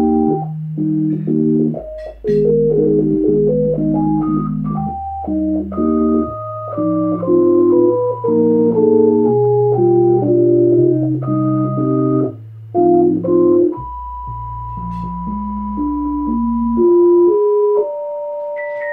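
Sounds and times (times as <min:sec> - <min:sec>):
organ-like keyboard music: 0:00.0 - 0:18.9.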